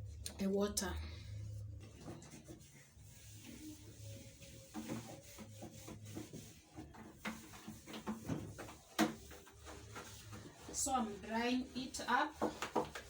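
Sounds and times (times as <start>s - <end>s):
cloth wiping inside refrigerator: 1.3s - 13.0s.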